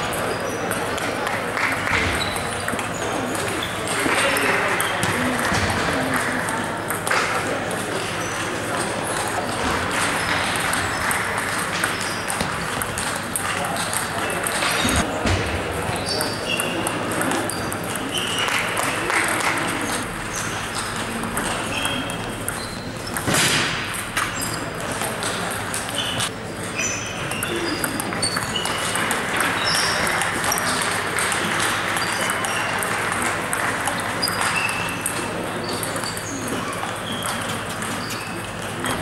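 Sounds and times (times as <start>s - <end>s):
murmur of voices: 0.0s - 39.0s
table tennis balls pinging: 0.0s - 39.0s.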